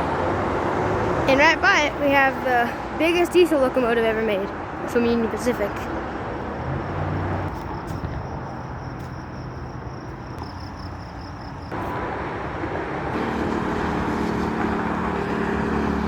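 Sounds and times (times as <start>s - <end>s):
road traffic noise: 0.0s - 16.0s
vehicle engine hum: 0.0s - 16.0s.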